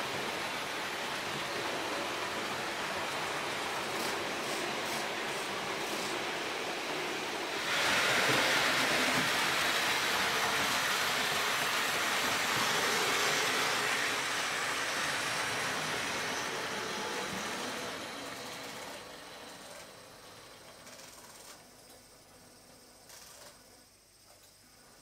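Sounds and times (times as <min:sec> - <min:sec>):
model train wheels and motor whirring: 0:00.0 - 0:25.0.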